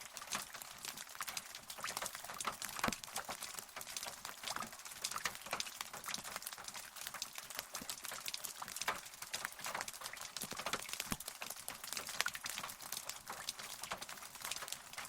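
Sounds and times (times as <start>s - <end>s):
raindrops pattering: 0.0s - 15.0s
steady rain hiss: 0.0s - 15.0s.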